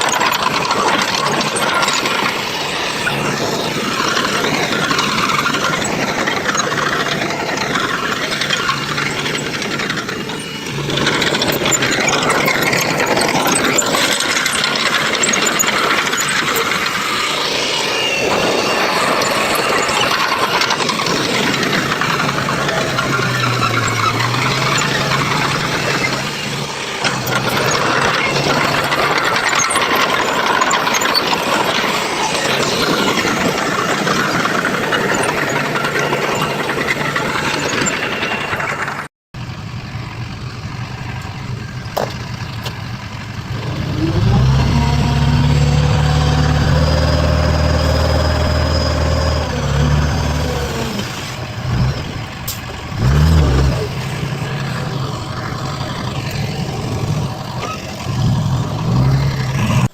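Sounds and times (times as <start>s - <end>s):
heavy vehicle engine revving: 0.0s - 59.9s
mechanical clatter: 0.0s - 59.9s.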